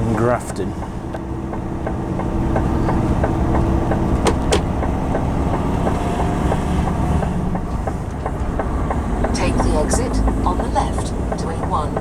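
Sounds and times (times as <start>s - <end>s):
engine and road rumble: 0.0s - 12.0s
light ticking: 0.5s - 12.0s.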